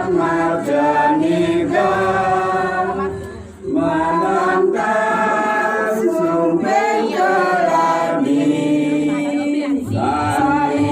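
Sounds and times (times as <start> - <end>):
voices singing slow song together: 0.0 - 10.9.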